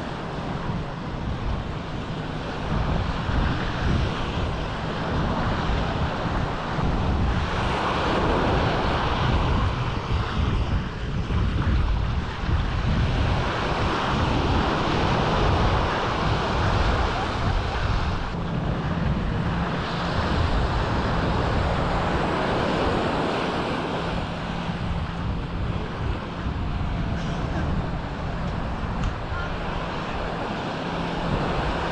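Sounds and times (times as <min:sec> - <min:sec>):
sea surf: 0:00.0 - 0:31.9
wind buffeting microphone: 0:00.0 - 0:31.9.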